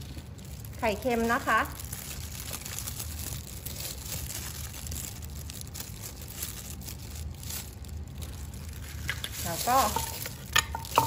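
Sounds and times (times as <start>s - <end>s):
crinkling rustling handling: 0.0s - 11.0s
low steady hum: 0.0s - 11.0s.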